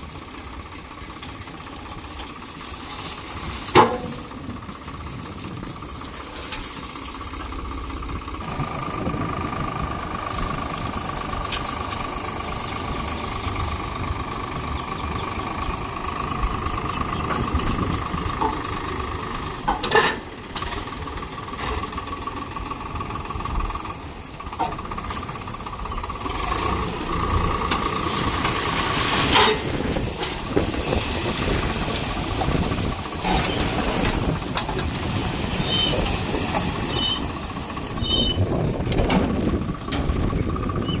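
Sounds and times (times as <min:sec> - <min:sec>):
diesel engines running: 0:00.0 - 0:41.0.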